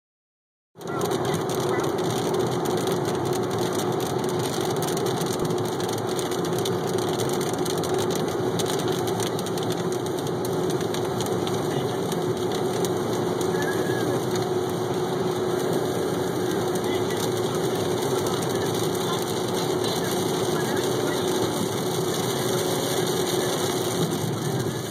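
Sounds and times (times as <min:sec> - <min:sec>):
rain on windshield: 0:00.8 - 0:24.9
road and engine noise: 0:00.8 - 0:24.9
tyres on wet pavement: 0:00.8 - 0:24.9.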